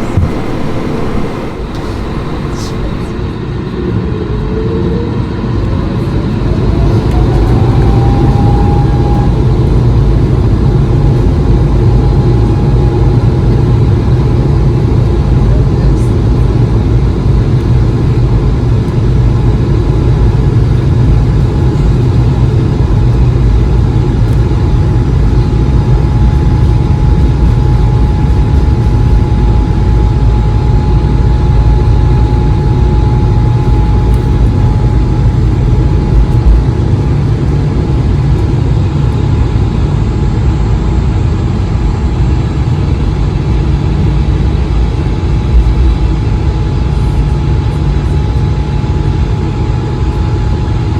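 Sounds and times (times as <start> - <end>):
jet engines rumbling with whine: 0.0 - 50.9.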